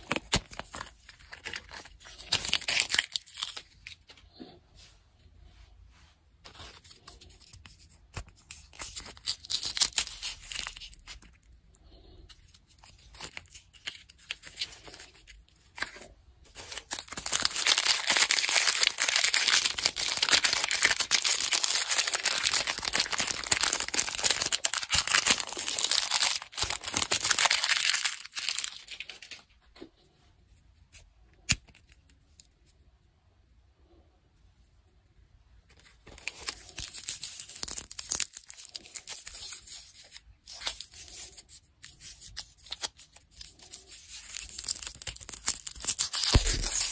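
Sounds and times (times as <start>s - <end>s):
plastic wrapper crinkling and tearing: 0.0s - 4.3s, 6.5s - 29.6s, 35.8s - 46.9s.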